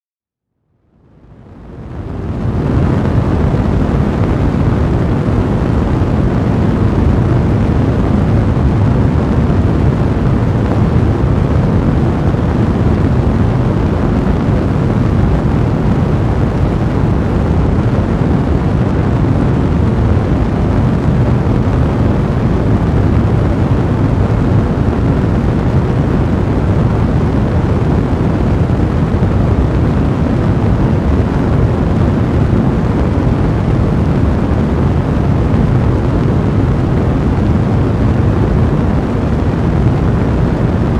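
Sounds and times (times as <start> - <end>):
fire blazing and crackling: 1.4 - 40.9.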